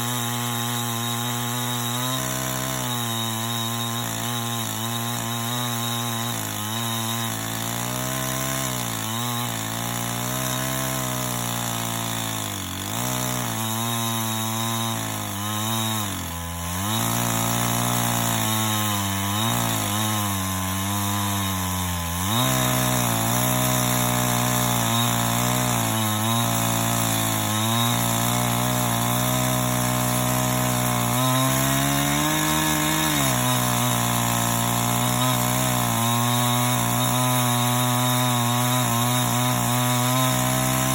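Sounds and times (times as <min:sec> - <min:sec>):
chainsaw ripping log: 0:00.0 - 0:40.9.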